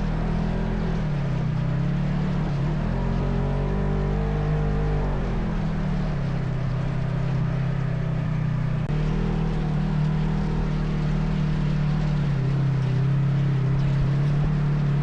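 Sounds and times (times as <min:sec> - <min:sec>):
atv engine droning: 0:00.0 - 0:15.0.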